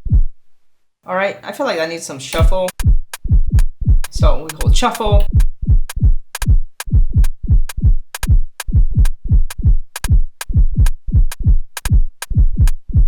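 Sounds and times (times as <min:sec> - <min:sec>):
deep kick drum: 0:00.0 - 0:00.3, 0:02.4 - 0:13.0.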